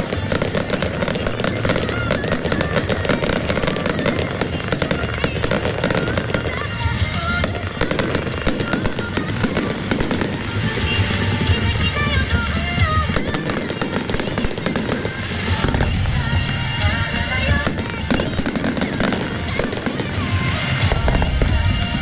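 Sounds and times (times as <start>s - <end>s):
fireworks bursting and crackling: 0.0s - 22.0s
music playing: 0.0s - 22.0s.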